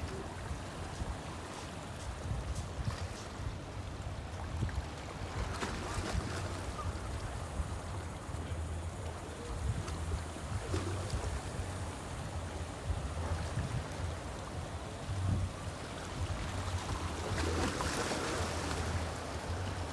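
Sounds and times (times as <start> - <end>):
rushing water: 0.0 - 19.9
wind: 0.0 - 19.9
low uneven rumble: 3.8 - 19.9.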